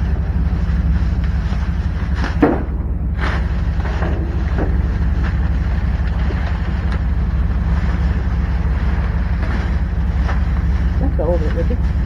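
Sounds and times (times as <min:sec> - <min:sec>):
rake scraping and knocking: 0:00.0 - 0:12.0
steady low rumble: 0:00.0 - 0:12.0.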